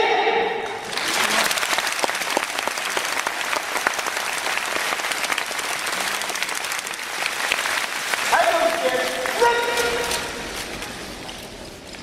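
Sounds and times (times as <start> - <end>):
audience applauding: 0.7 - 11.3.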